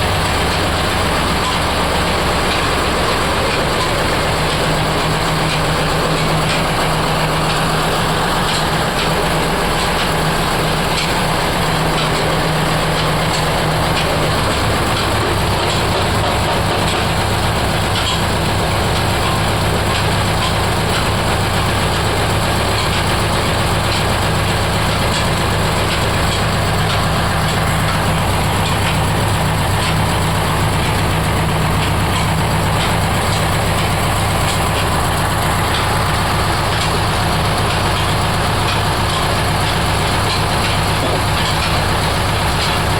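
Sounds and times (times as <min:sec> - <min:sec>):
machine droning: 0:00.0 - 0:42.9.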